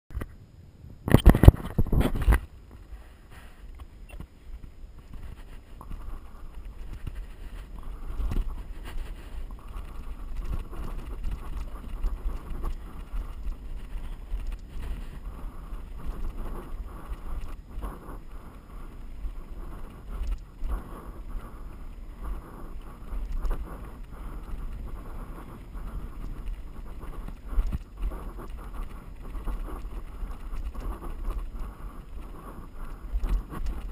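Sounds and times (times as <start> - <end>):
wind buffeting microphone: 0.1 - 33.9.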